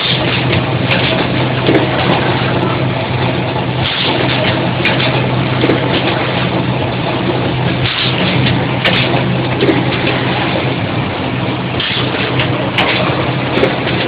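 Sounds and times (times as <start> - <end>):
machine humming: 0.0 - 14.0
motors and conveyor belts: 0.0 - 14.0.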